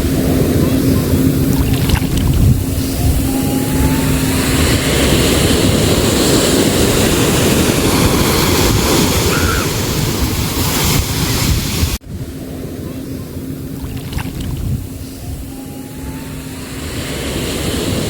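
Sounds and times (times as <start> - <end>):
low hum: 0.0 - 10.6, 12.0 - 18.0
sea water rushing: 0.0 - 18.0
wind buffeting microphone: 0.0 - 18.0.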